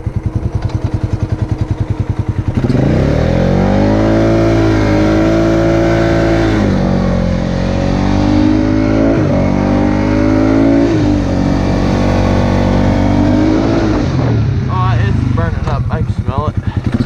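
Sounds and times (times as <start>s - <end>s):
four-wheeler engine revving: 0.0s - 17.0s.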